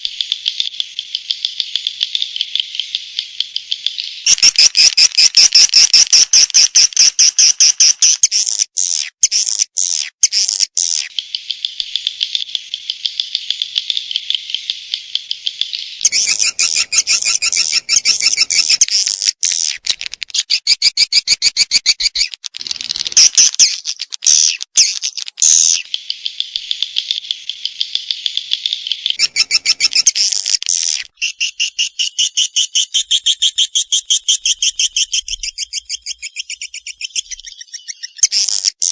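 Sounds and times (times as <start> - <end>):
swiftlets twittering chirps: 0.0 - 19.8, 20.5 - 38.9.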